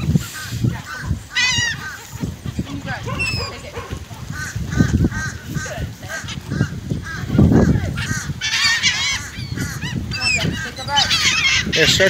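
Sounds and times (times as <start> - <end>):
low rumbling wind noise: 0.0 - 12.0
waterbirds calling: 0.0 - 12.0.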